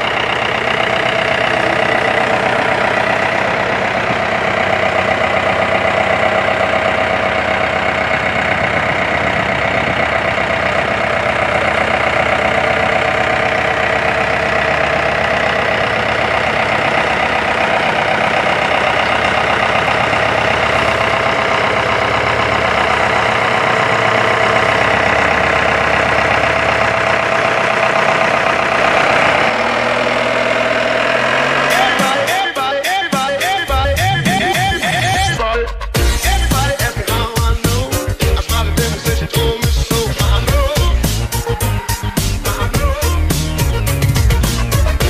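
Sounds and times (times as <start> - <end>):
tow tractor engine droning: 0.0 - 45.0.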